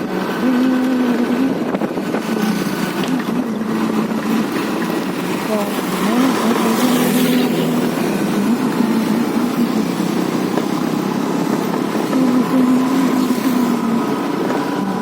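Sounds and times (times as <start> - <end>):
scooter engine running: 0.0 - 15.0
steady rushing noise: 0.0 - 15.0.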